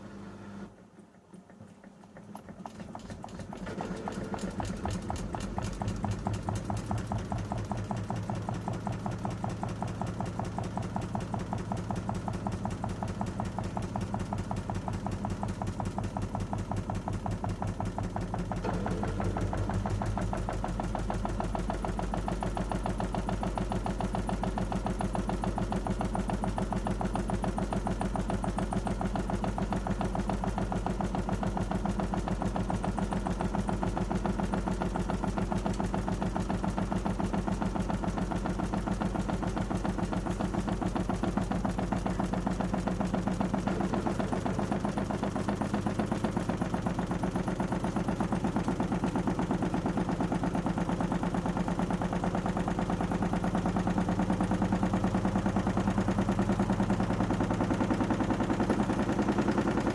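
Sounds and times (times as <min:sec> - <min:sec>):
washing machine motor hum: 0:00.0 - 0:59.9
washing machine drum knocking: 0:04.4 - 0:59.9.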